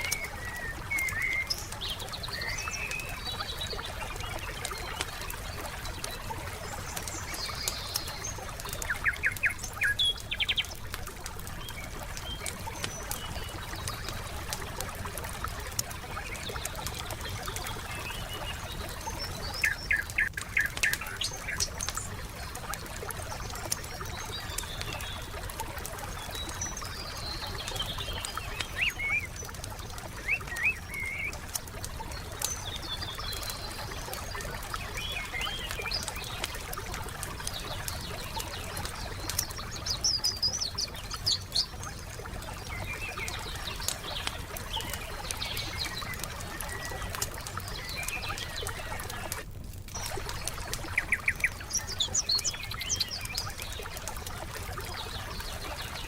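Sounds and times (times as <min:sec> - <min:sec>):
campfire crackling and popping: 0:00.0 - 0:56.0
songbirds chirping: 0:00.0 - 0:56.0.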